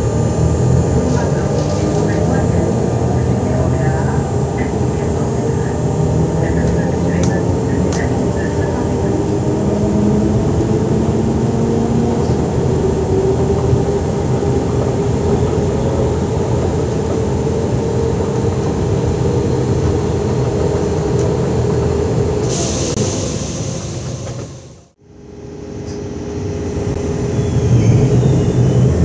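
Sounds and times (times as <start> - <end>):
electric train humming: 0.0 - 29.0.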